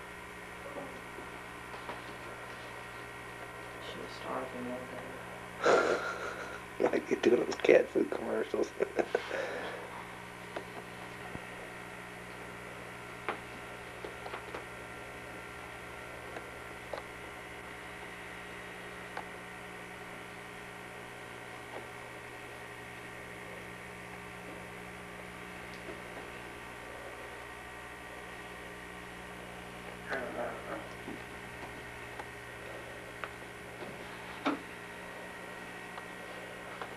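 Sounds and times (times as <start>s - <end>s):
electrical hum: 0.0s - 36.9s.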